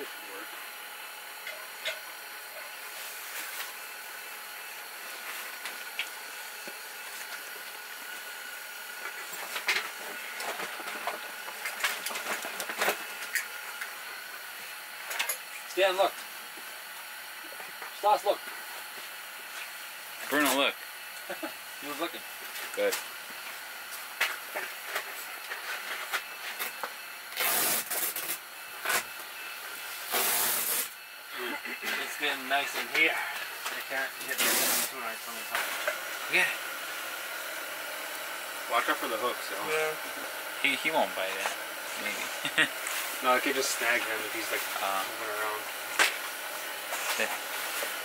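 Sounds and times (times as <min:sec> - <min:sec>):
heater hissing: 0:00.0 - 0:48.0.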